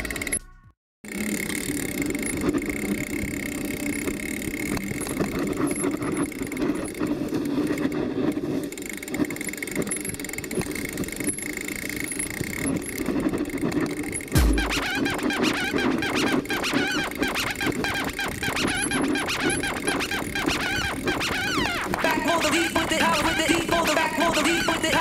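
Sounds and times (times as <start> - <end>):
bike frame rattling: 0.0 - 25.0.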